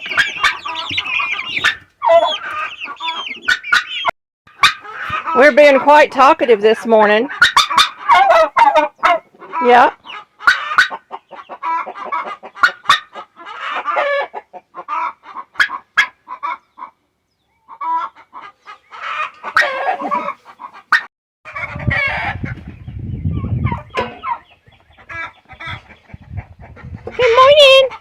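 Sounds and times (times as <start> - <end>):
chickens clucking and calling: 0.0 - 28.0.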